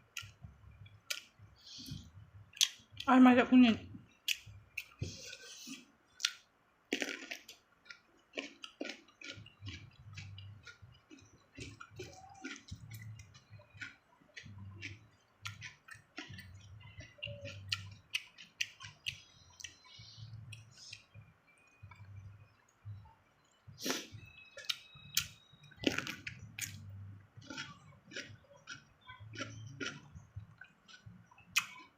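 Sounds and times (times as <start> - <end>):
crunchy chewing: 4.2 - 22.8, 23.4 - 31.9.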